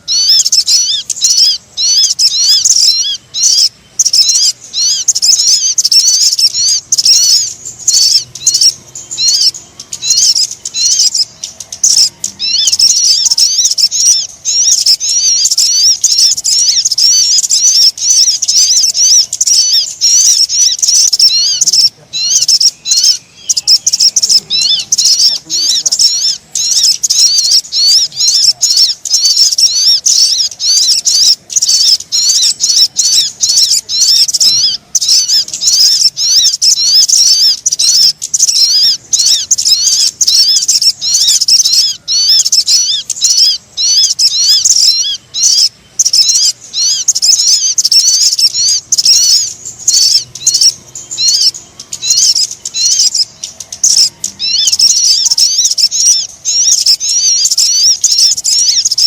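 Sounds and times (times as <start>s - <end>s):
high-pitched bird chirps: 0.0s - 59.0s.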